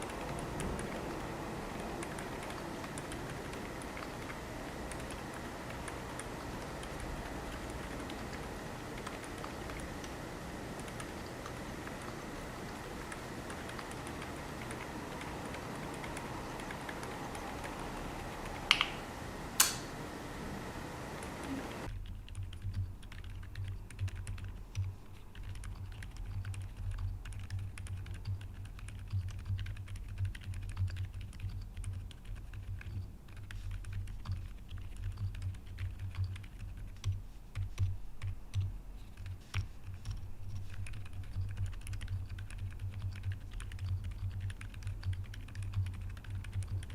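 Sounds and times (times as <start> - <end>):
sharp keyboard clacks: 0.0 - 10.2, 10.8 - 19.0, 21.8 - 46.9.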